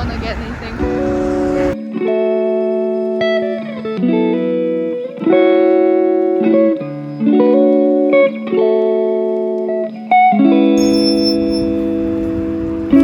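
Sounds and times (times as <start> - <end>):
clean electric guitar chords: 0.0 - 13.0.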